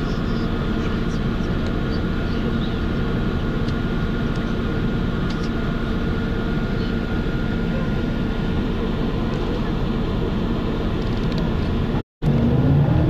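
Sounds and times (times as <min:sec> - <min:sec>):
thin steady whine: 0:00.0 - 0:11.8
vehicle drone from inside cabin: 0:00.0 - 0:13.0.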